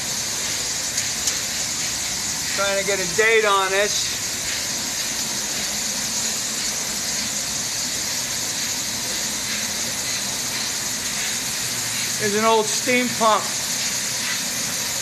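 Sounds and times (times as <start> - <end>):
steady hissing: 0.0 - 15.0.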